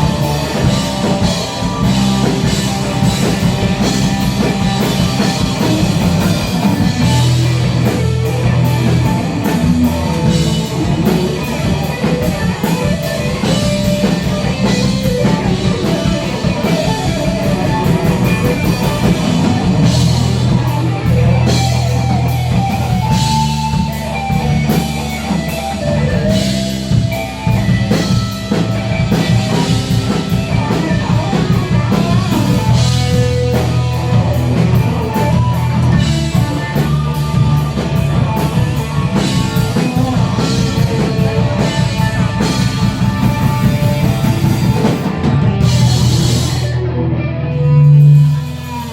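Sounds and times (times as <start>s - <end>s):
bass guitar: 0.0s - 48.9s
drum kit: 0.0s - 48.9s
guitars: 0.0s - 48.9s.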